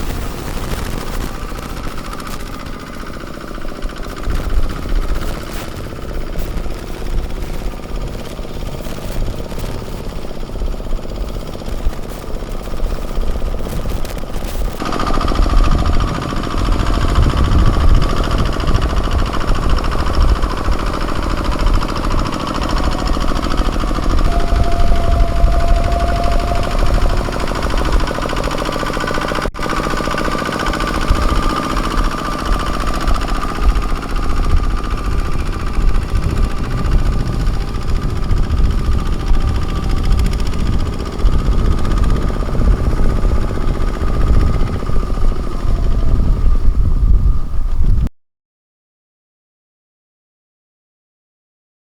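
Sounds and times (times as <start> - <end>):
diesel engine chugging: 0.0 - 47.8.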